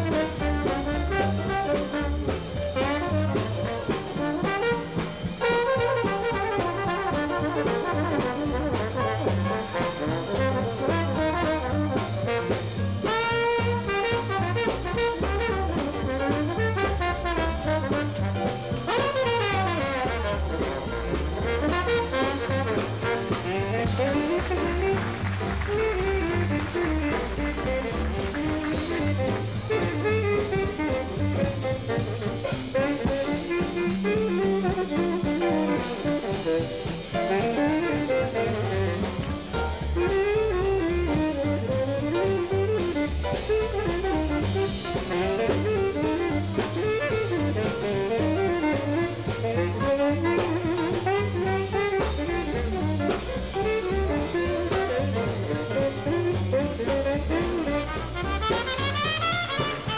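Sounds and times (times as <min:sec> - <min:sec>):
jazz band playing live: 0:00.0 - 0:59.9
tenor saxophone solo: 0:00.0 - 0:59.9.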